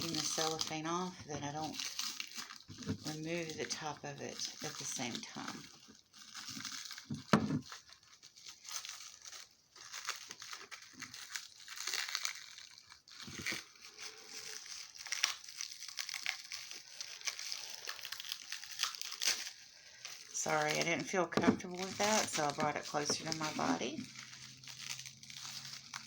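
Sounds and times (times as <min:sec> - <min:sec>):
cellophane crinkling: 0:00.0 - 0:26.0.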